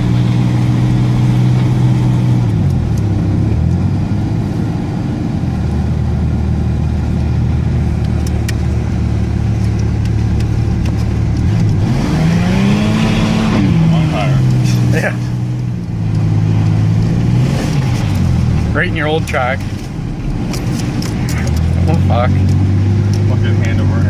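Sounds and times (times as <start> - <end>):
pickup engine revving: 0.0 - 24.0.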